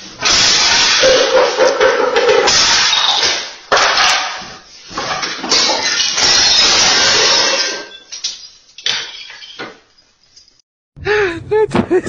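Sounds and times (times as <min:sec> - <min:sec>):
items clattering onto hard floor: 0:00.2 - 0:10.5.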